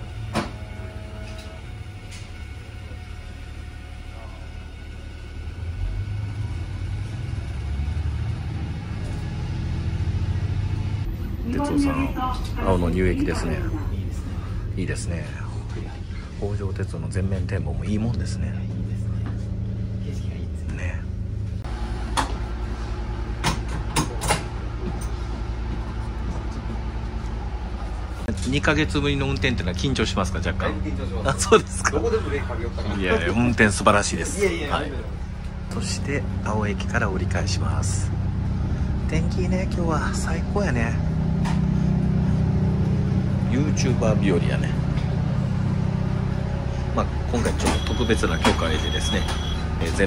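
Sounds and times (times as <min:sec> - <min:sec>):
diesel engine rumbling: 0:00.0 - 0:50.0.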